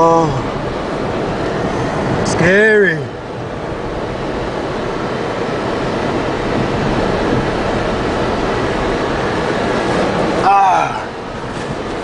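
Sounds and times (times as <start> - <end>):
car road noise: 0.0 - 12.0
wind rushing: 0.0 - 12.0.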